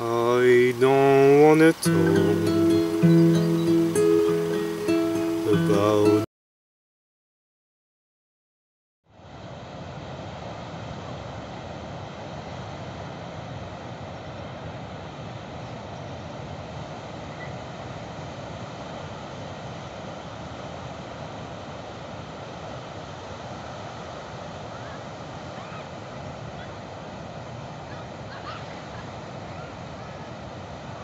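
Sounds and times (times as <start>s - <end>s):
ocean surf breaking on beach: 0.0s - 6.3s, 9.2s - 31.0s.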